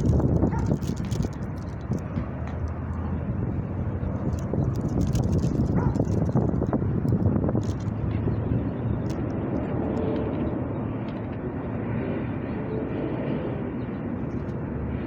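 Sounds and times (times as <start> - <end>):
distant city traffic rumble: 0.0 - 15.0.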